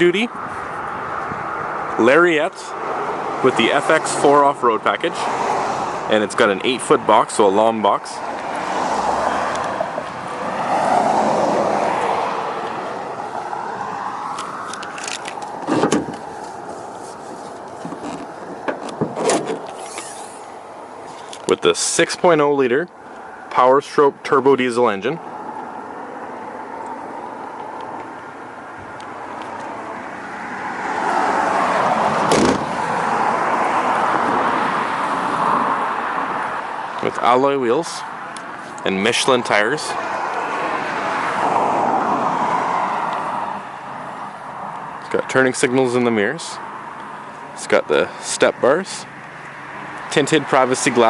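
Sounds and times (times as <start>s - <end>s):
motor vehicle noise: 0.0s - 51.0s
road traffic rushing by: 0.0s - 51.0s.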